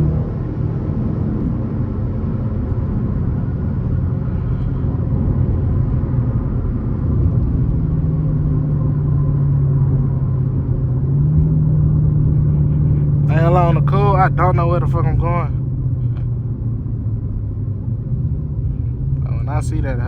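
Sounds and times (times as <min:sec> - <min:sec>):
car engine cruising drone: 0:00.0 - 0:20.0
road noise: 0:00.0 - 0:20.0.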